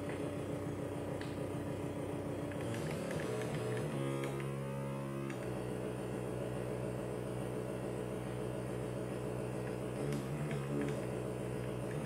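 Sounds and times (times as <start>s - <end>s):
analog synthesizer drone: 0.0s - 12.0s.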